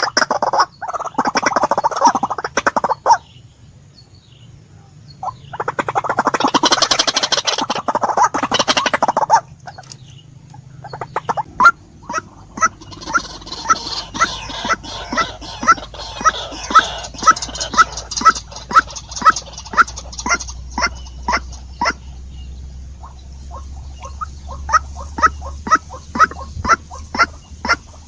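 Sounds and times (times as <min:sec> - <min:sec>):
bird harsh stuttering calls: 0:00.0 - 0:03.3, 0:05.2 - 0:28.0
bird repeated kwak notes: 0:05.1 - 0:28.0.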